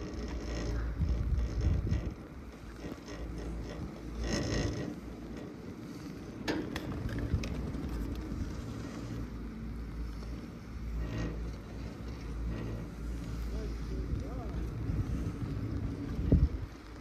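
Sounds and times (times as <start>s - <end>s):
chairlift creaking and clicking: 0.0s - 17.0s
steady low hum: 0.0s - 17.0s.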